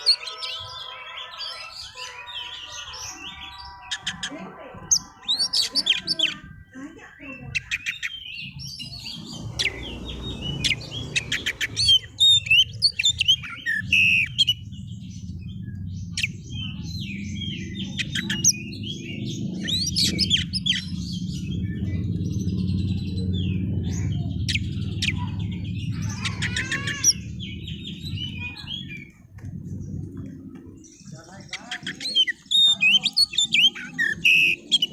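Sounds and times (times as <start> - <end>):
low background rumble: 3.3 - 34.9.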